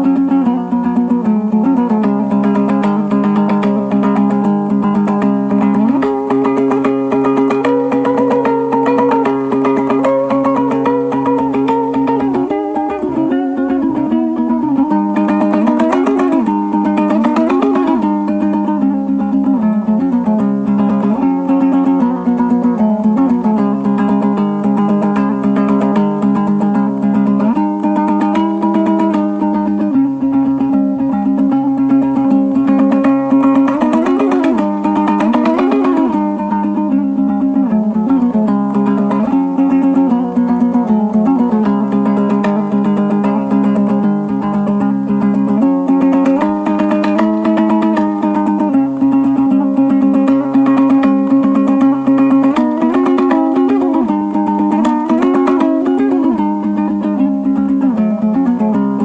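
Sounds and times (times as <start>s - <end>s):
picked guitar-like string music: 0.0s - 59.0s.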